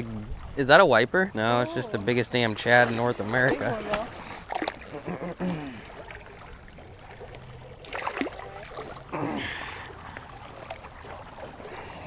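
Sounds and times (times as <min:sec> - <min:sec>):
small waves lapping on rocks: 0:00.3 - 0:12.0.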